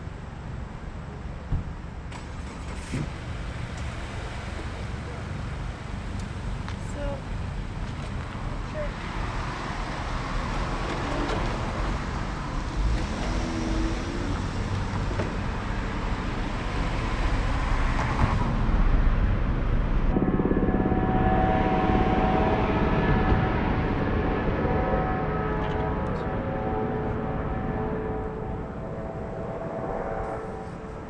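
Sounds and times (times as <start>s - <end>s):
street noise rumble: 0.0s - 31.0s.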